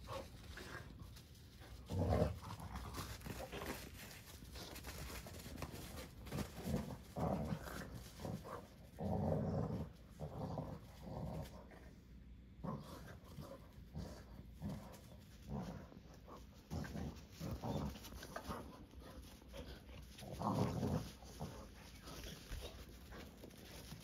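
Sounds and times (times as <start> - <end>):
dogs growling: 1.6 - 24.0.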